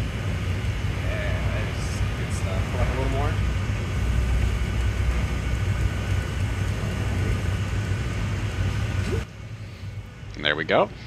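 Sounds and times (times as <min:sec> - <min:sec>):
furnace and burners roaring: 0:00.0 - 0:11.0.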